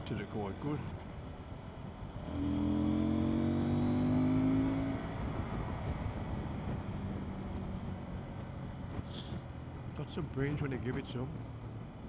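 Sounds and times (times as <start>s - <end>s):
road and wind rumble: 0.0s - 12.0s.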